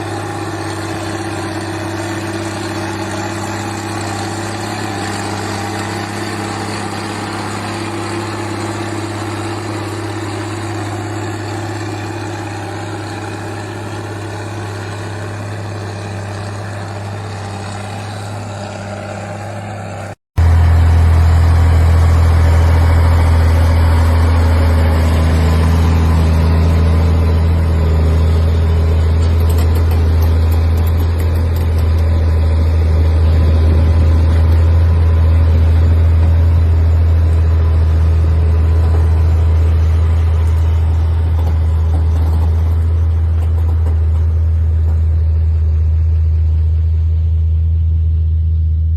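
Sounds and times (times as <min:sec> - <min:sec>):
deep engine drone: 0:00.0 - 0:48.9
tractor engine humming: 0:00.0 - 0:48.9.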